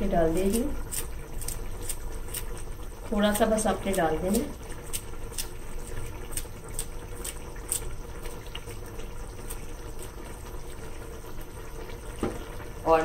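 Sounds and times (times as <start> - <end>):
curry bubbling in a pot: 0.0 - 13.0
faint steady hum: 0.0 - 13.0.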